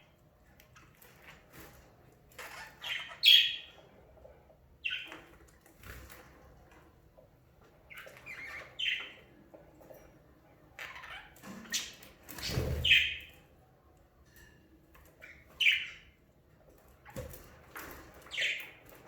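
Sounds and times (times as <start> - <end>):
soft bird chatter: 0.0 - 14.1, 14.7 - 19.0.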